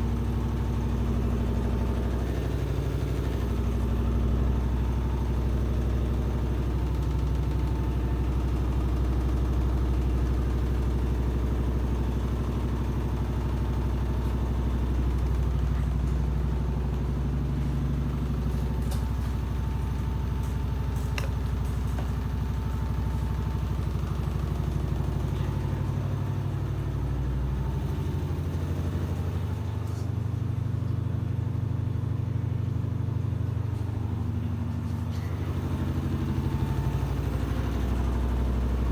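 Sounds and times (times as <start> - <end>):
washing machine hum: 0.0 - 38.9.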